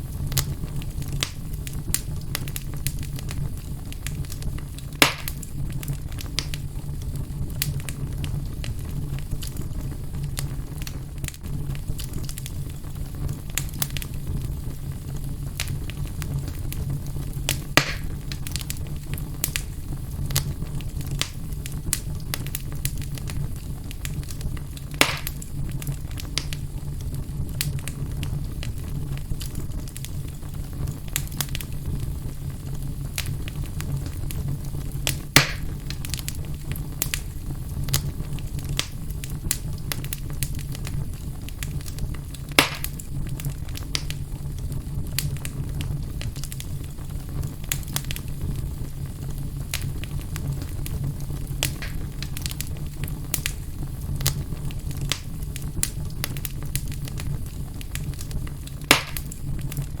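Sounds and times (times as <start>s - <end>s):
loud fire pops: 0.0s - 60.0s
wood fire crackling: 0.0s - 60.0s.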